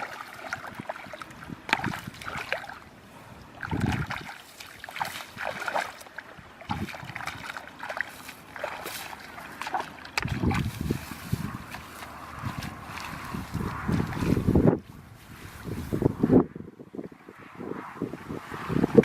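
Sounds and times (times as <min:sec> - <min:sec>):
water splashing and sloshing: 0:00.0 - 0:16.2.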